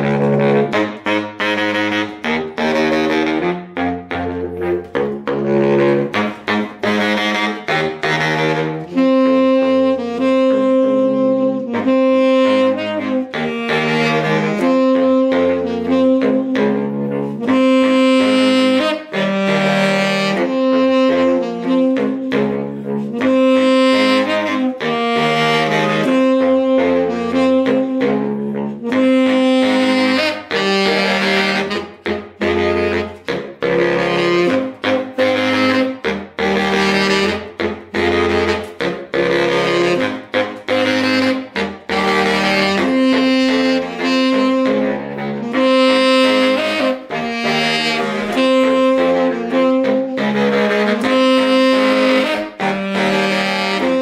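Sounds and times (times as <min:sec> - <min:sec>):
baritone saxophone riff: 0:00.0 - 0:54.0
tenor saxophone melody: 0:00.0 - 0:54.0.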